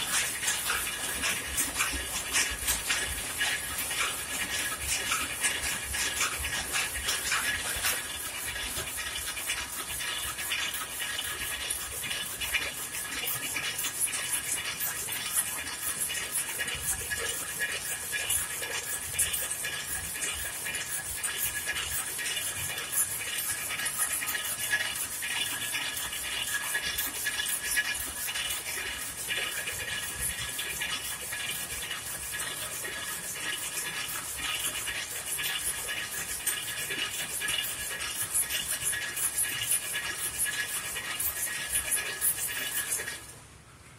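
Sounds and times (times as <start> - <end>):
loom clattering: 0.0 - 43.4.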